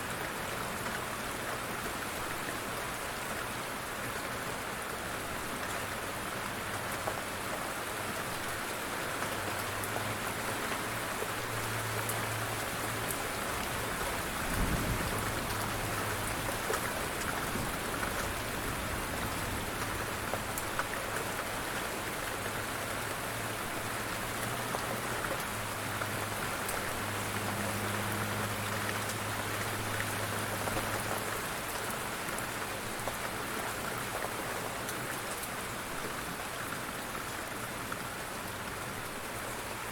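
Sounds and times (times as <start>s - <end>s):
light rain: 0.0s - 39.9s.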